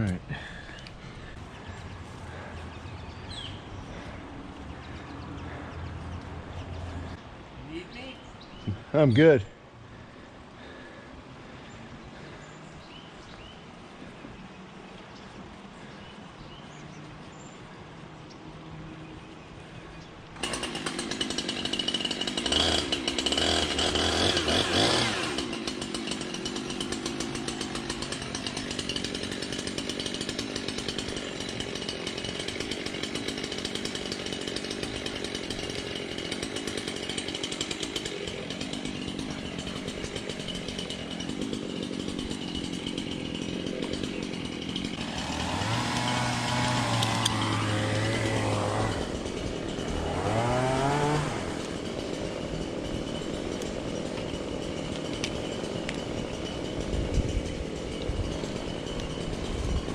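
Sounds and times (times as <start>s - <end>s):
chainsaw running: 0.0s - 14.4s, 15.5s - 59.9s.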